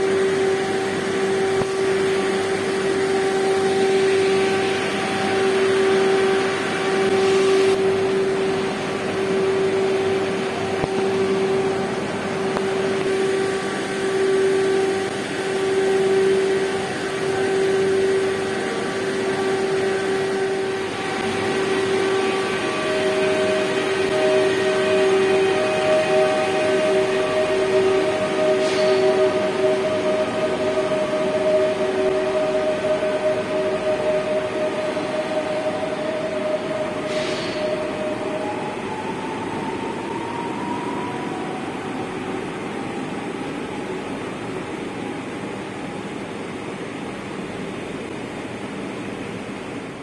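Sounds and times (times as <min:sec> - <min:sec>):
rushing noise: 0:00.0 - 0:50.0
train electric hum: 0:00.0 - 0:50.0.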